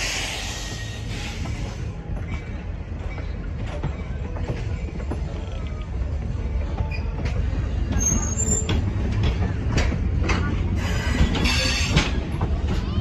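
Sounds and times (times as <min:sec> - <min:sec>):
railroad cars rumbling on rails: 0:00.0 - 0:13.0
wheels and couplings clicking: 0:01.1 - 0:13.0.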